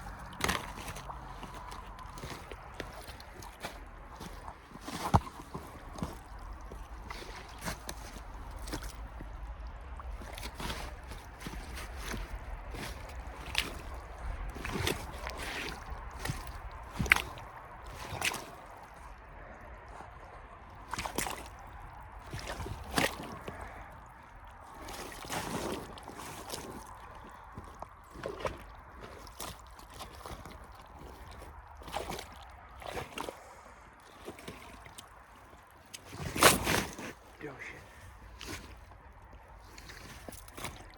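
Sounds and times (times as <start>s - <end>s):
boots squelching through mud: 0.0s - 40.9s.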